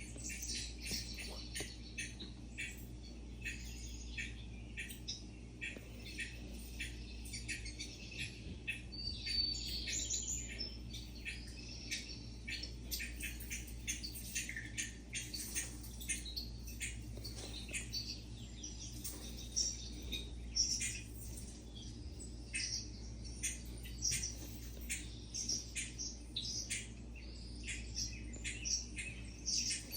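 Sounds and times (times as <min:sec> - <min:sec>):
small birds chirping: 0:00.0 - 0:29.9
steady low hum: 0:00.0 - 0:29.9.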